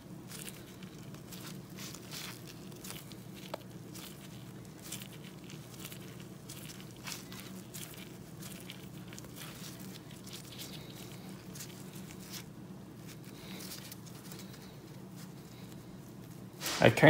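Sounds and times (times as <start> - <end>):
gloved hands rustling and scraping: 0.0 - 17.0
steady low hum: 0.0 - 17.0.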